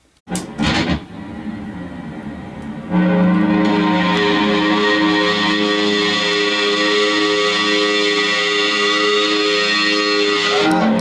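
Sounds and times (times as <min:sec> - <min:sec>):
electric guitar sustained chord: 0:00.3 - 0:11.0.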